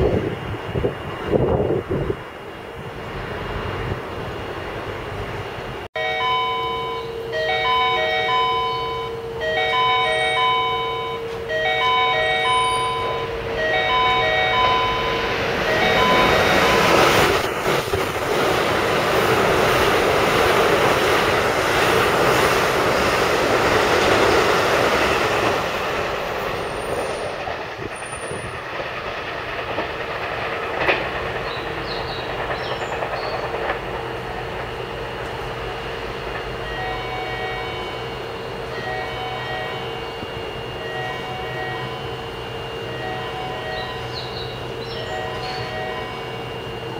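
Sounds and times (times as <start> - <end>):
train passing at speed: 0.0 - 46.9.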